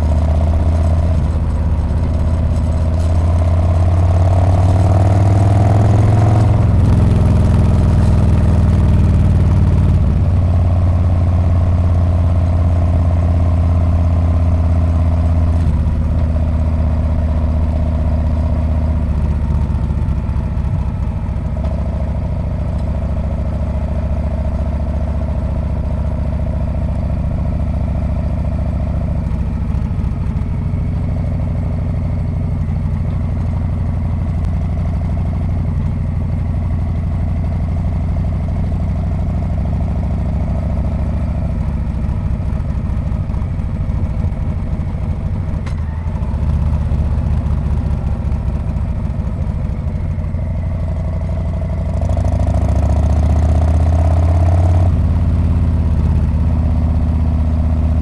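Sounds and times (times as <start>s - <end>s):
motorcycle exhaust while riding: 0.0s - 58.0s.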